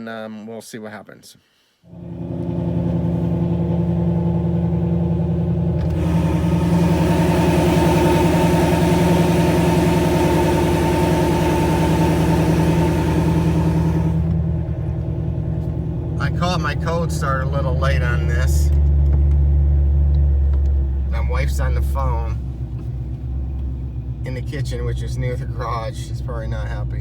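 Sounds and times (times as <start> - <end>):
car engine idling: 1.9 - 27.0.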